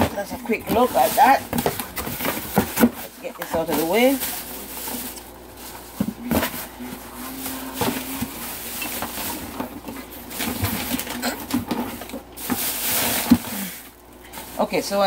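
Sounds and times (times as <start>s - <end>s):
packaging rustling: 0.0s - 14.9s.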